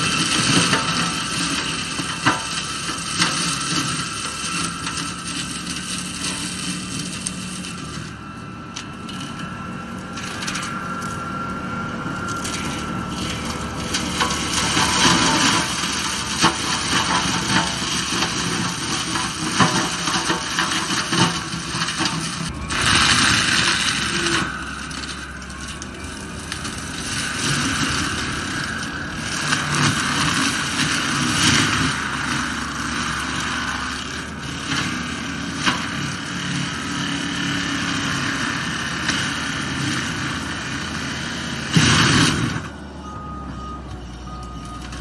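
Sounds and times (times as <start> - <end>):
diesel engine running: 0.0 - 45.0
mulcher grinding brush: 0.0 - 45.0.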